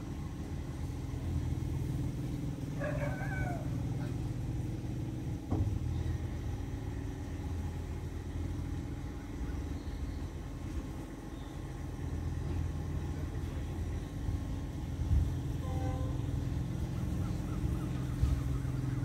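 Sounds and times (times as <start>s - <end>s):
diesel train engine idling: 0.0s - 19.0s.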